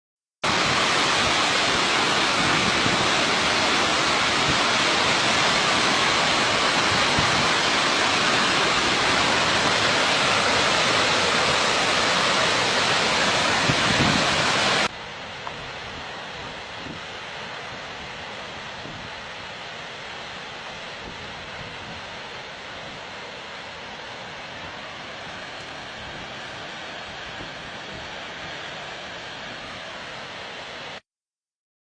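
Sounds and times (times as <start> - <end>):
waterfall rushing: 0.4 - 31.0.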